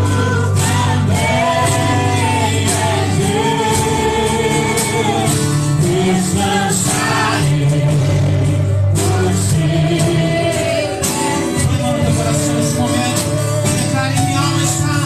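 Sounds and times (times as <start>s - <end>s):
band with bass and percussion: 0.0s - 15.0s
voices singing held notes: 0.0s - 15.0s.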